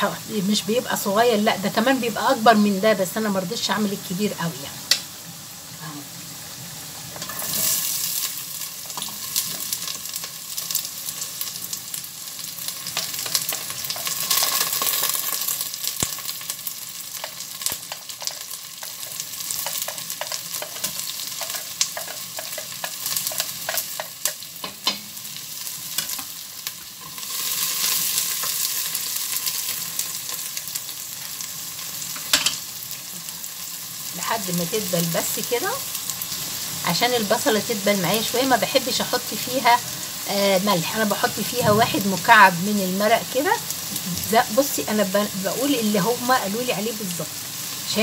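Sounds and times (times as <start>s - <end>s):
onions sizzling in hot oil: 0.0s - 48.0s.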